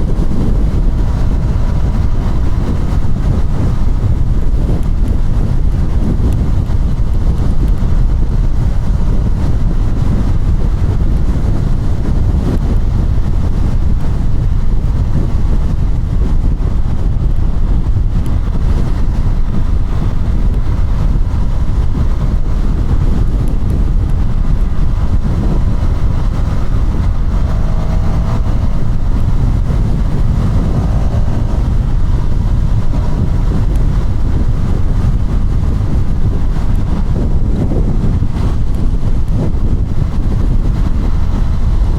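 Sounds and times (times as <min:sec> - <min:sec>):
motorcycle engine running: 0:00.0 - 0:41.9
wind rushing on microphone: 0:00.0 - 0:41.9.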